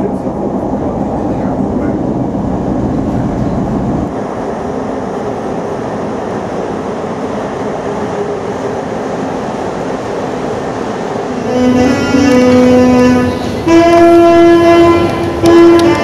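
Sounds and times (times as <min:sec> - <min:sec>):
metro train rumble: 0:00.0 - 0:16.0
underground station hum: 0:00.0 - 0:16.0.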